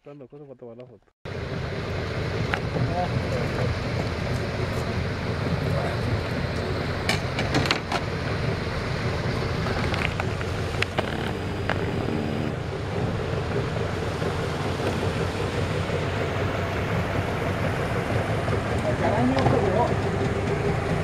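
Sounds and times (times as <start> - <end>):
boat motor running: 1.3 - 21.0.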